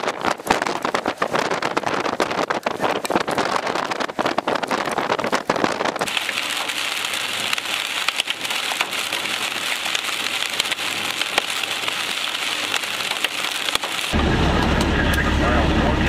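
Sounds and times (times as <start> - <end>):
heavy rain on car roof: 0.0 - 15.9.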